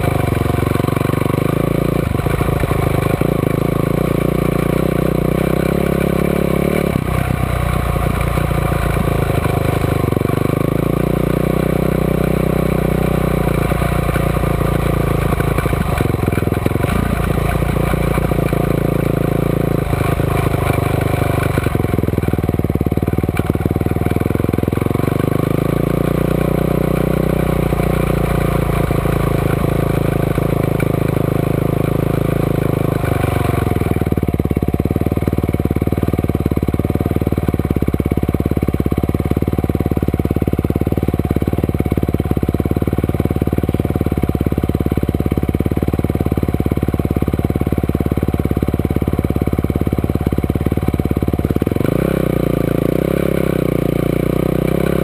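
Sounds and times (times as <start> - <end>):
motorcycle engine revving: 0.0 - 55.0
motorcycle idling: 0.0 - 55.0.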